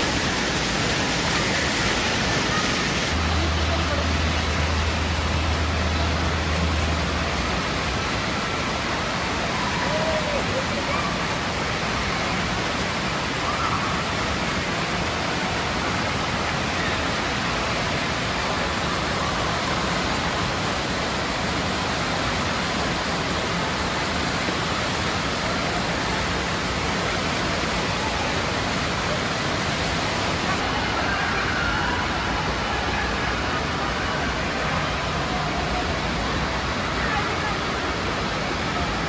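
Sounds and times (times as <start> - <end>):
water rushing: 0.0 - 39.0.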